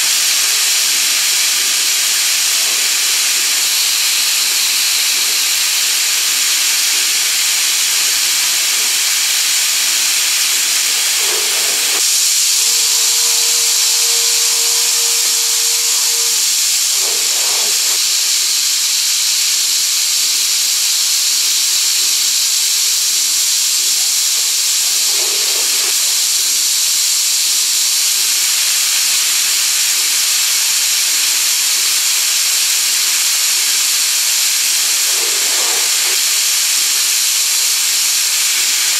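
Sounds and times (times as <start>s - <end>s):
coolant spraying hiss: 0.0s - 38.9s.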